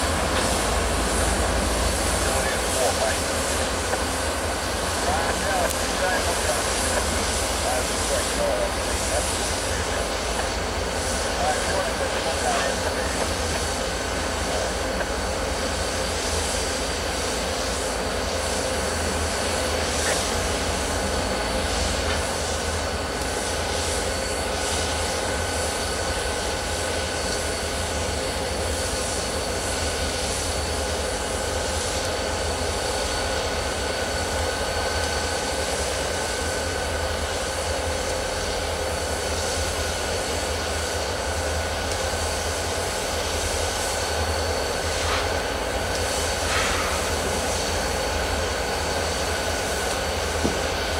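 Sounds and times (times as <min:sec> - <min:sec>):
diesel locomotive engine drone: 0:00.0 - 0:50.9
thin steady whine: 0:00.0 - 0:50.9.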